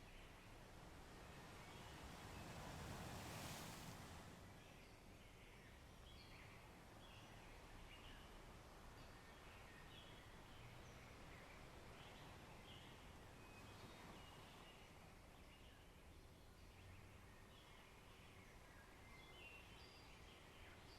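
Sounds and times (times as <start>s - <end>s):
steady background hiss: 0.0s - 20.9s.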